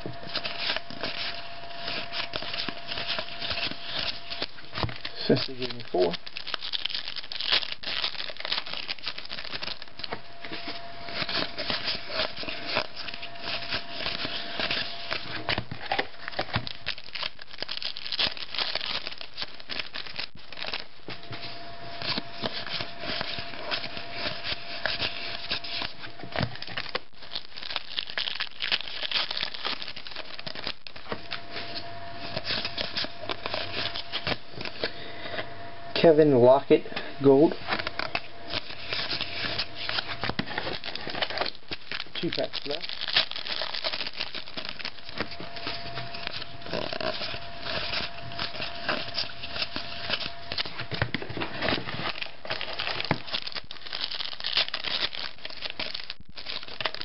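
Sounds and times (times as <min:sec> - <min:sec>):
cardboard cards rustling: 0:00.0 - 0:35.0, 0:37.3 - 0:57.0
foil wrapper crinkling and tearing: 0:00.0 - 0:35.0, 0:37.3 - 0:57.0.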